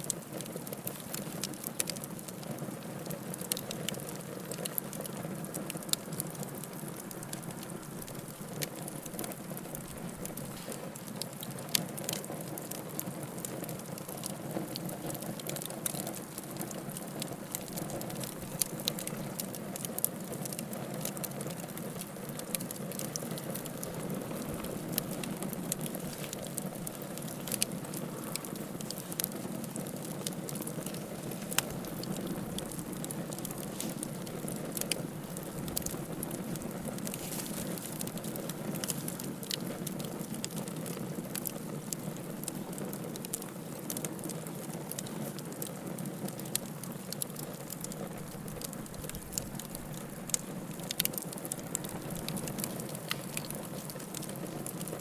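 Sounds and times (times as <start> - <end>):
burning wood crackling and popping: 0.0 - 55.0
wood fire flames rushing: 0.0 - 55.0.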